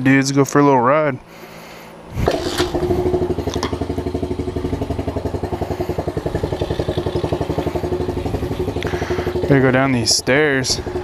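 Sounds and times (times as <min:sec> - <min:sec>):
small motorbike engine idling: 0:02.2 - 0:11.0.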